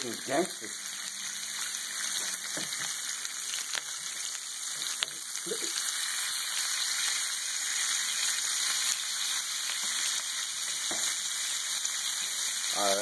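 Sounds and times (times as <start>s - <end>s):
bacon sizzling on a griddle: 0.0s - 13.0s.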